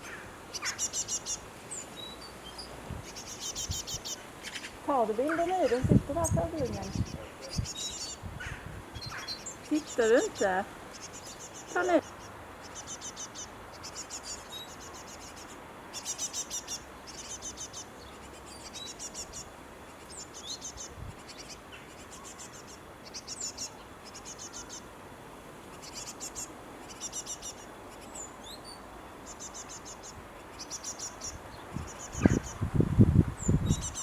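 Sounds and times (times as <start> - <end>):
fledglings chirping: 0.0 - 24.9, 25.7 - 32.7, 33.4 - 34.0.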